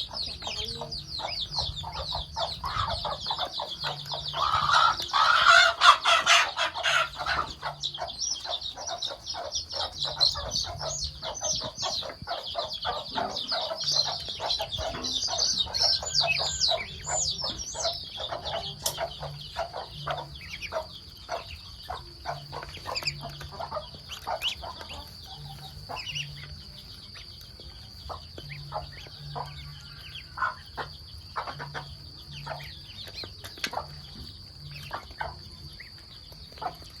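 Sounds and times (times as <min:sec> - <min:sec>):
duck bills clicking and pecking: 0:00.0 - 0:29.7
high peeping calls: 0:00.0 - 0:37.0.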